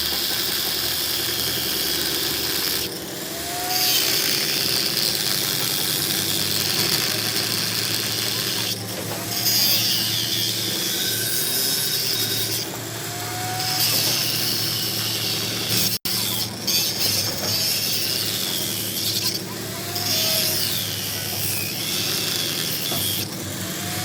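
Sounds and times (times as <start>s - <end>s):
motor hum: 0.0s - 24.0s
power tool grinding metal: 0.0s - 24.0s.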